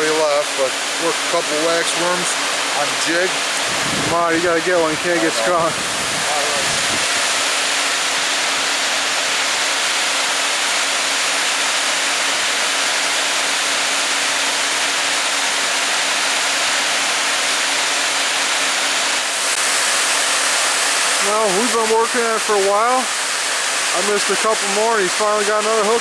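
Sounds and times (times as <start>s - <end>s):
water rushing over a dam: 0.0s - 26.0s.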